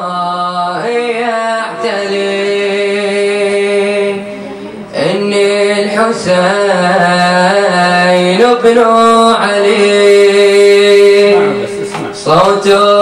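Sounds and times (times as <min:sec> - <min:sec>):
male reciter chanting into microphone: 0:00.0 - 0:13.0.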